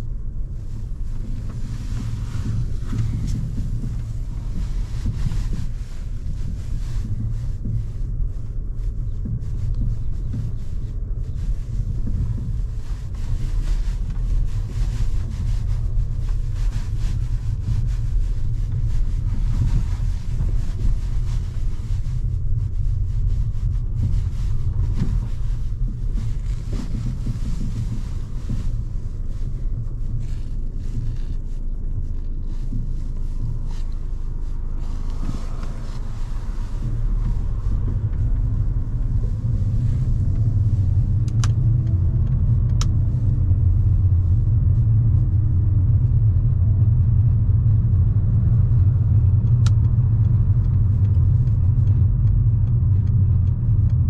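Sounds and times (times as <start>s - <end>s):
car engine low rumble: 0.0s - 54.0s
wind noise on microphone: 0.0s - 54.0s.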